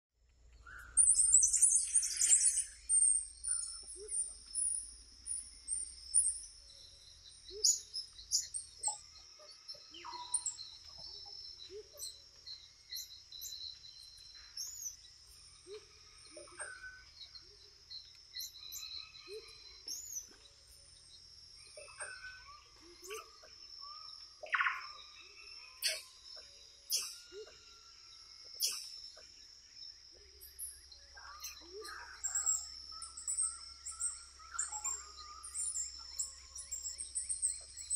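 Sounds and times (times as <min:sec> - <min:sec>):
bird and animal chirps: 0:00.6 - 0:37.9.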